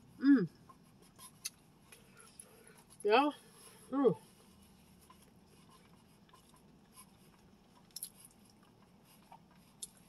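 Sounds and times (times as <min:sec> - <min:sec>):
faint chewing and mouth sounds: 0:00.0 - 0:10.0.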